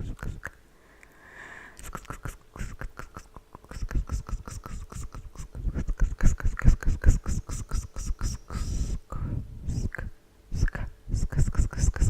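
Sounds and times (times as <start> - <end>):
whispered hissing and clicking: 1.8 - 12.0.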